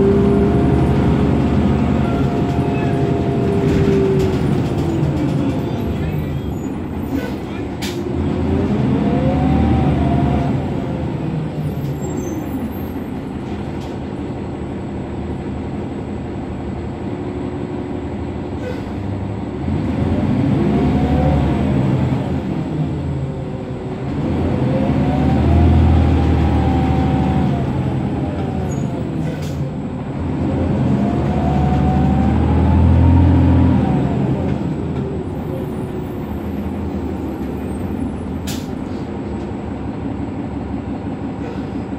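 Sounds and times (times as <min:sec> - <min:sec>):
bus diesel engine: 0:00.0 - 0:41.9.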